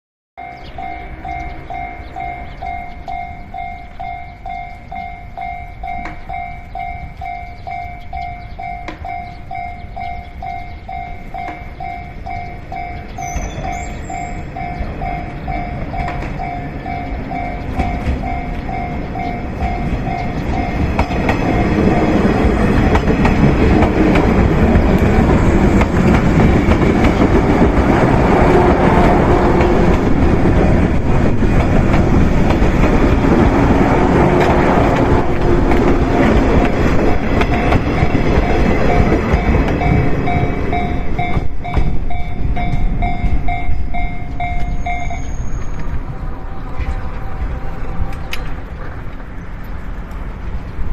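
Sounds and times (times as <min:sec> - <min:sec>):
level crossing warning bell: 0:00.4 - 0:45.9
wheels clacking over rail joints: 0:00.4 - 0:46.0
electric train passing: 0:00.4 - 0:50.9.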